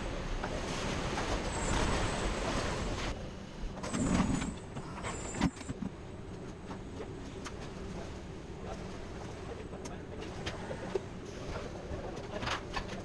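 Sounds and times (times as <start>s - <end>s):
machinery hum and hiss: 0.0s - 13.0s.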